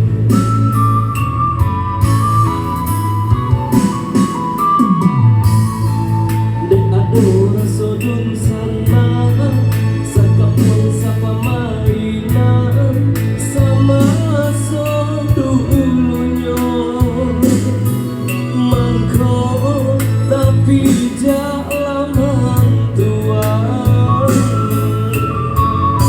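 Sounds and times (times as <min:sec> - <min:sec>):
band playing with singer: 0:00.0 - 0:26.0.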